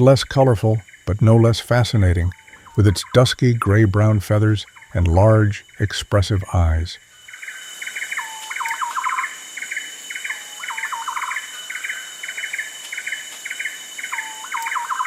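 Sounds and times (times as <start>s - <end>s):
forest birds calling: 0.0s - 15.0s
insects droning: 0.0s - 15.0s.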